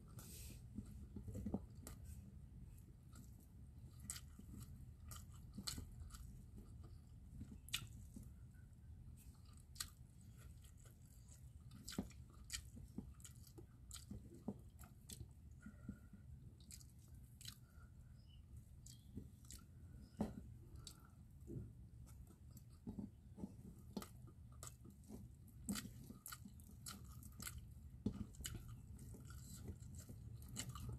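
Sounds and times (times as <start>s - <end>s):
person chewing food: 0.0s - 30.9s.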